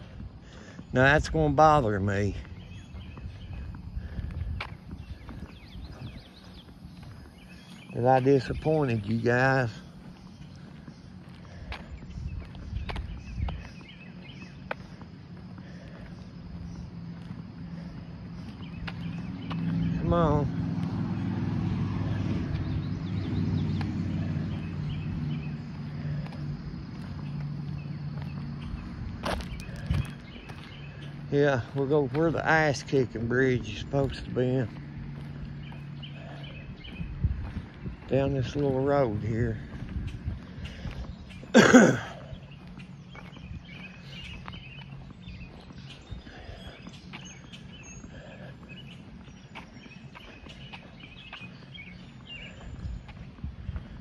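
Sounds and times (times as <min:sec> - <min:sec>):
birds chirping faintly: 0:00.0 - 0:54.0
footsteps on asphalt: 0:00.0 - 0:54.0.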